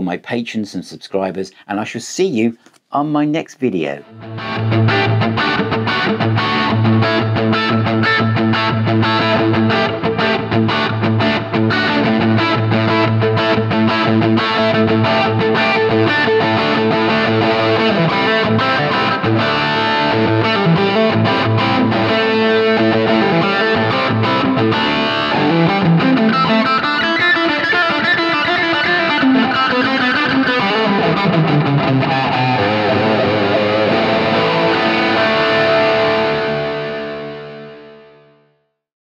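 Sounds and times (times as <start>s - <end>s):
distorted electric guitar music: 4.0s - 38.6s.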